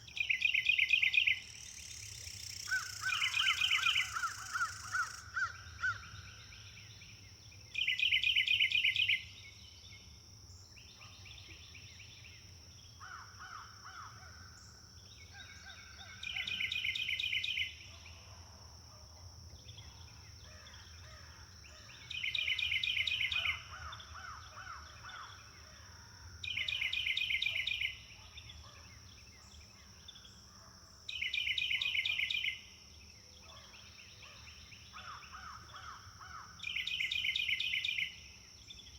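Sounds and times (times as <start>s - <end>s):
birds singing quietly: 0.0s - 18.4s, 19.1s - 38.9s.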